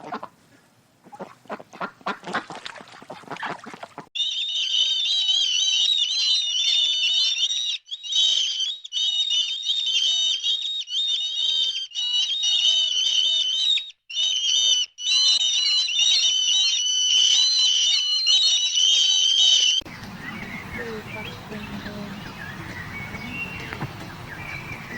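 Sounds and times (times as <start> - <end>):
small birds chirping and twittering: 4.2 - 24.9.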